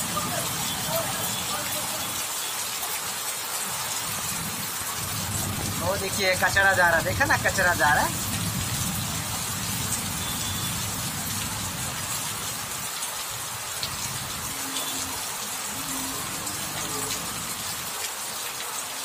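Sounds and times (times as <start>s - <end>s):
heavy rain on flooded road: 0.0s - 19.0s.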